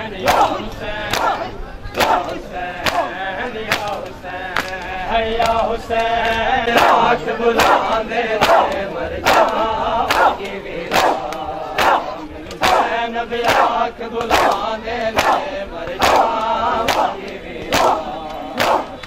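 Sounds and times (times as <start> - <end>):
men chanting in unison: 0.0 - 19.0
crowd slapping chests: 0.2 - 19.0.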